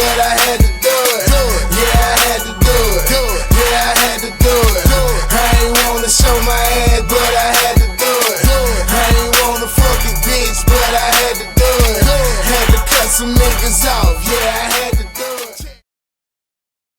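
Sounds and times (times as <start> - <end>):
hip hop beat: 0.0 - 15.8.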